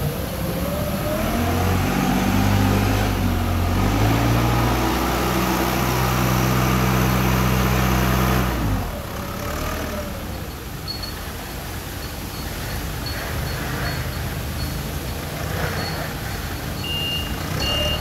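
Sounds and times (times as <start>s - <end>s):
forklift engine revving: 0.0s - 10.5s, 13.6s - 18.0s.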